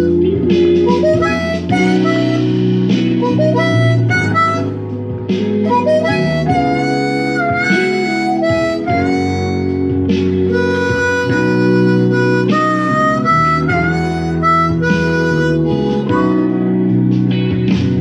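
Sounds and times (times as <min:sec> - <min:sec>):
blues guitar backing track: 0:00.0 - 0:18.0
blues harmonica playing: 0:00.0 - 0:18.0.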